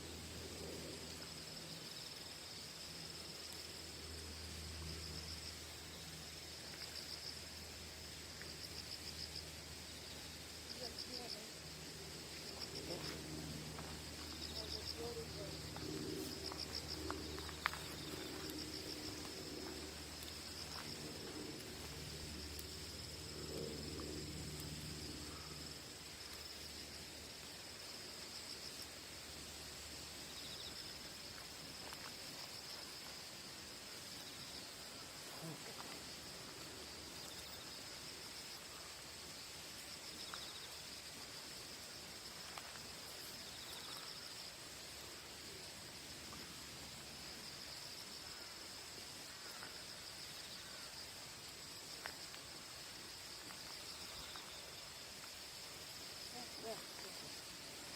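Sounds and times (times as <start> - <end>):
faint outdoor hiss: 0.0 - 57.9
insects chirping: 0.0 - 57.9.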